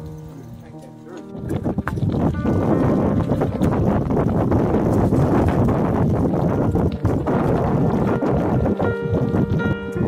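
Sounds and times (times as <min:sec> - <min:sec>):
background music of held notes: 0:00.0 - 0:10.0
wind buffeting microphone: 0:00.0 - 0:10.0.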